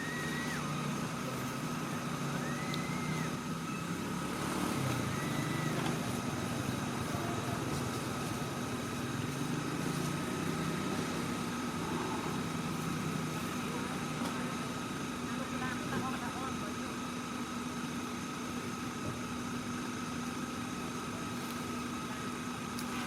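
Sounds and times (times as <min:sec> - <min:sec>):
small engine humming: 0:00.0 - 0:23.0.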